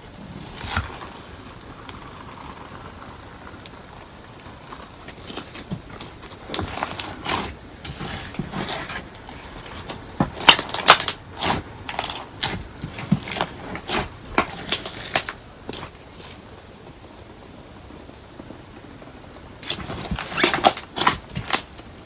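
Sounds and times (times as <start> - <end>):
crunchy slime crackling: 0.0 - 17.4, 19.6 - 22.0.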